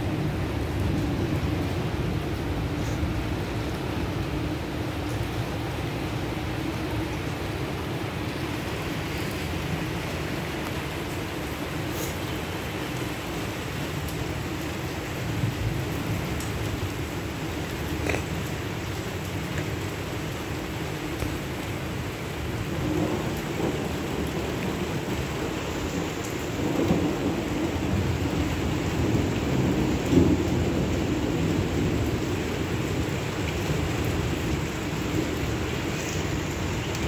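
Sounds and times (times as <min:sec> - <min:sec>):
rain on wet pavement: 0:00.0 - 0:37.0.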